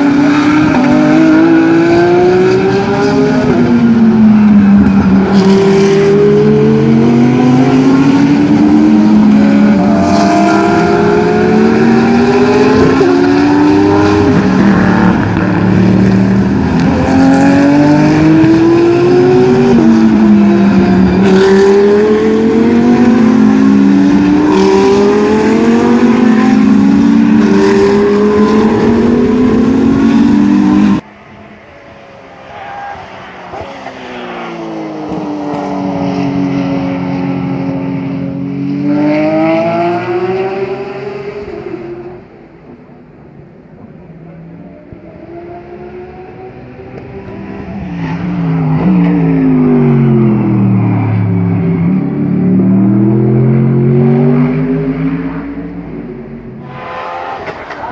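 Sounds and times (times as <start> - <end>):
race car engines accelerating: 0.0 - 57.9.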